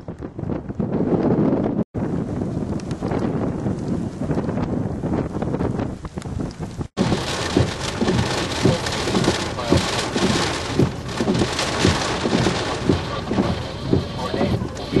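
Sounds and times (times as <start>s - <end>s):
thuds of raindrops: 0.0s - 15.0s
wind noise: 0.0s - 15.0s
heavy rain pelting a vehicle: 2.1s - 15.0s.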